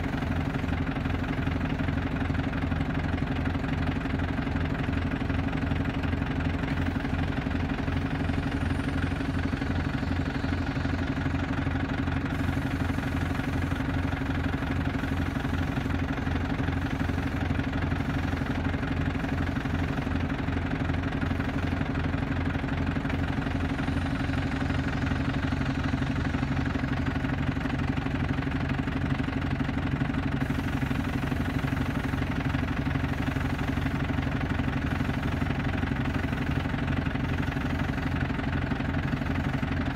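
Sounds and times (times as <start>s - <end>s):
lorry diesel engine idling: 0.0s - 39.9s.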